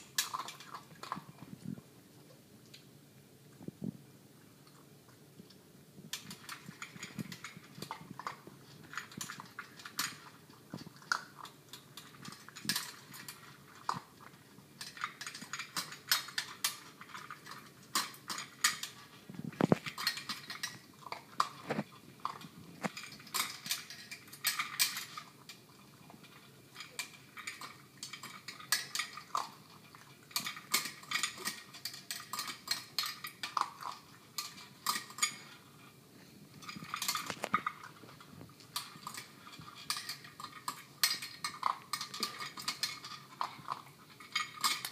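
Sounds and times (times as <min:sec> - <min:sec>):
dog eating from metal bowl: 0:00.0 - 0:01.9, 0:06.1 - 0:44.9.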